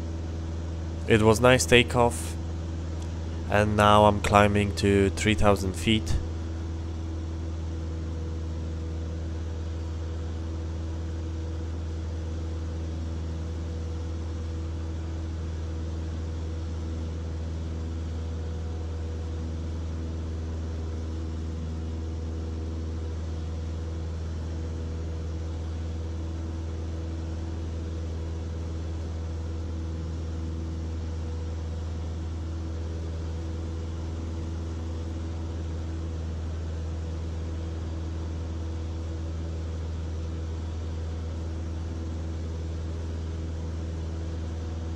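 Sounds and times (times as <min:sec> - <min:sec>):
airplane engine and propeller drone: 0:00.0 - 0:44.9.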